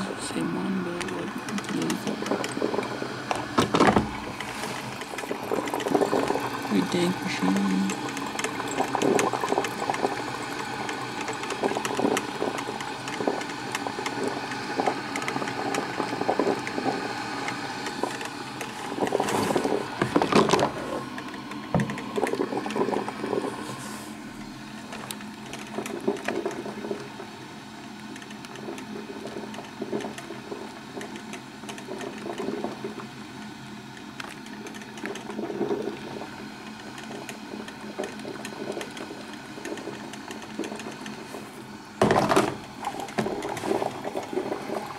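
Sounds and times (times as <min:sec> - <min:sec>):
coffee maker gurgling and sputtering: 0:00.0 - 0:44.9.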